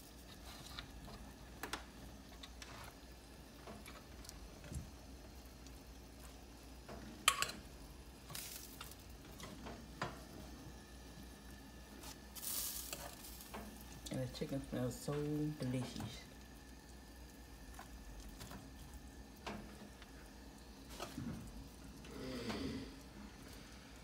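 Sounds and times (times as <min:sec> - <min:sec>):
chicken wings sizzling in oven: 0:00.0 - 0:24.0.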